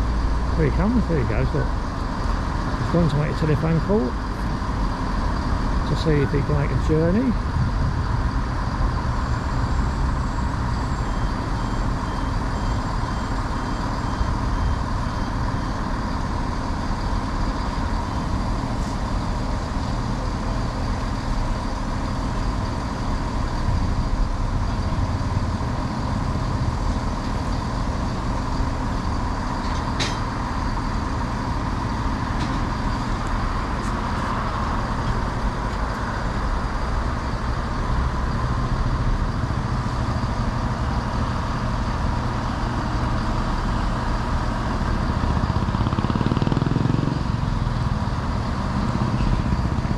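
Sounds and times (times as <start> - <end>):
diesel train engine idling: 0.0 - 49.9
faint steady whine: 0.0 - 49.9.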